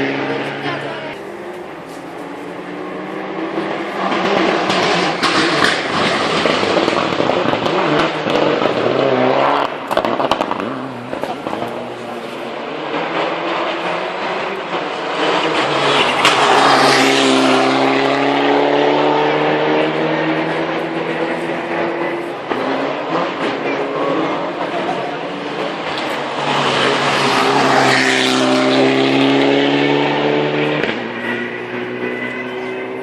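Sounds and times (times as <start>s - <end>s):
rally car engine passing: 0.0s - 33.0s.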